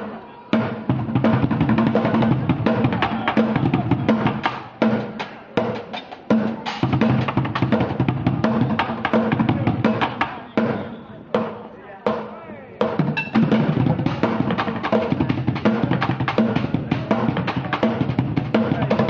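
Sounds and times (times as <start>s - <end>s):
bucket drumming: 0.6s - 19.0s.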